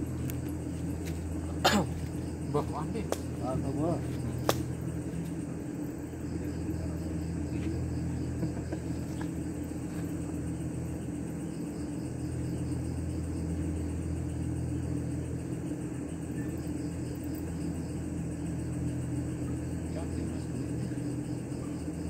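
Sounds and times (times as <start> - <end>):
crickets chirping: 0.0 - 22.0
low mechanical hum: 0.0 - 22.0.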